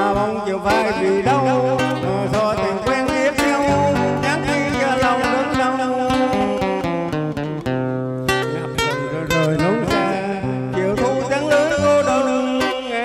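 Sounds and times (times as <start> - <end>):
acoustic guitar plucked melody: 0.0 - 13.0.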